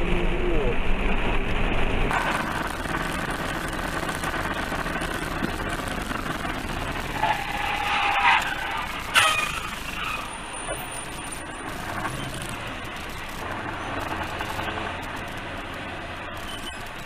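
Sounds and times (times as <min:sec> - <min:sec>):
vehicle and road noise: 0:00.0 - 0:17.0.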